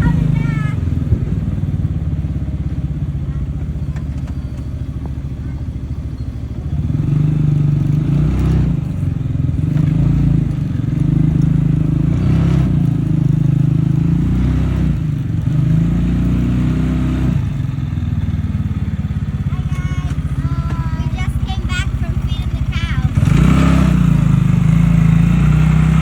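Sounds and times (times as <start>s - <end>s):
small farm vehicle engine: 0.0s - 26.0s.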